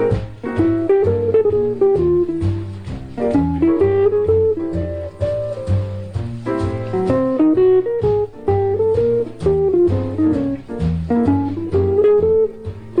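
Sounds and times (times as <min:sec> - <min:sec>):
bass line: 0:00.0 - 0:13.0
plucked guitar notes: 0:00.0 - 0:13.0.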